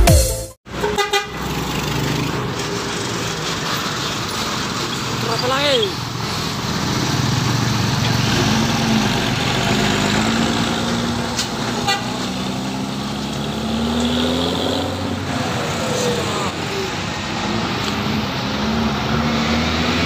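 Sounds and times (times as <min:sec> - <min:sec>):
bus diesel engine accelerating: 0:00.7 - 0:20.0.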